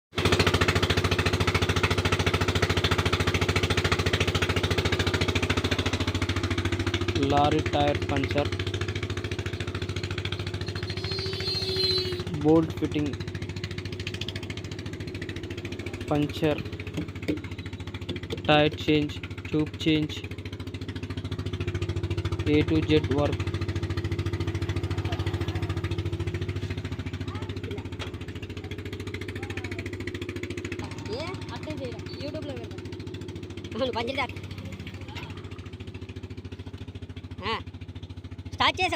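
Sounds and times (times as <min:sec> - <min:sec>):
engine idling: 0:00.1 - 0:38.9
machine chugging: 0:00.2 - 0:38.9.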